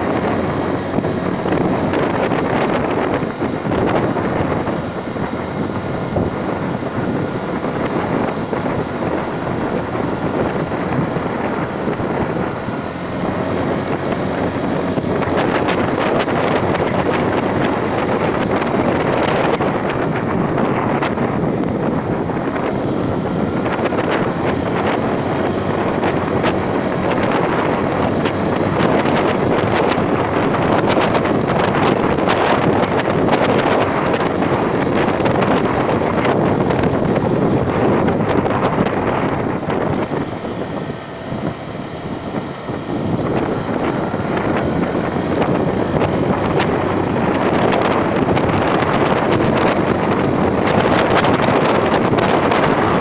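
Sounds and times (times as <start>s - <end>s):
moving vehicle running noise: 0.0s - 53.0s
strong wind rushing over microphone: 0.0s - 53.0s
wind buffeting crackle: 0.0s - 53.0s.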